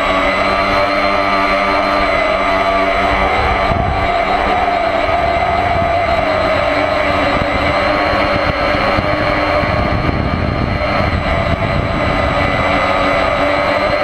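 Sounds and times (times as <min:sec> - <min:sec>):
electric motor and propeller whine: 0:00.0 - 0:14.0
wind on microphone: 0:00.0 - 0:14.0.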